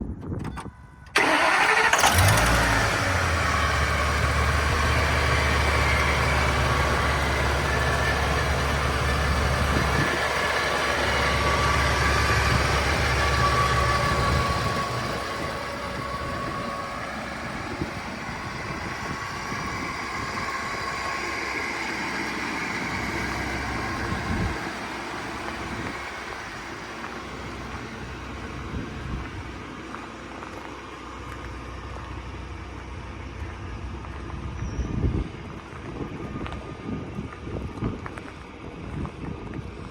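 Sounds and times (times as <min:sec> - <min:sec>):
truck engine cranking and idling: 0:00.0 - 0:39.9.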